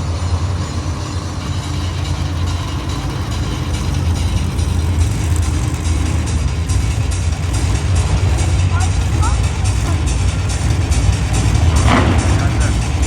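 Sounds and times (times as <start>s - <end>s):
truck engine deep rumble: 0.0s - 13.0s.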